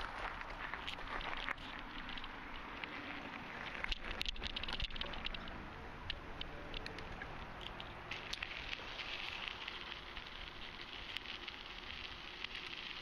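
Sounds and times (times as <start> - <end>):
bicycle tyre noise: 0.0 - 13.0.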